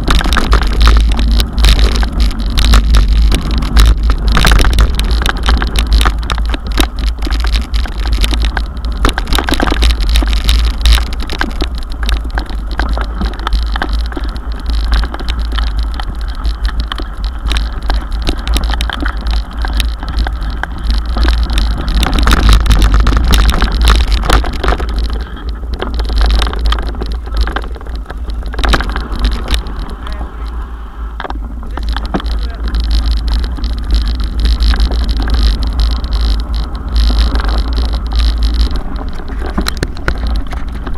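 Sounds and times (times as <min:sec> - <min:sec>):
bike rattling knocks: 0:00.0 - 0:30.5, 0:31.2 - 0:40.9
bike rumbling over rough track: 0:00.0 - 0:40.9.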